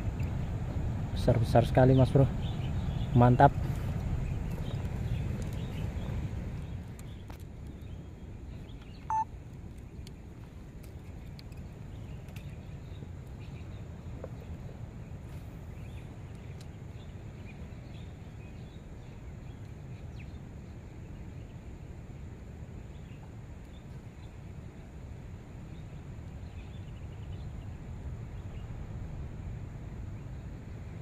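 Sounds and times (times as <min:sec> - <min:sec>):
small birds chirping: 0:00.0 - 0:21.8, 0:22.6 - 0:28.8
wind rumble on microphone: 0:00.0 - 0:31.0.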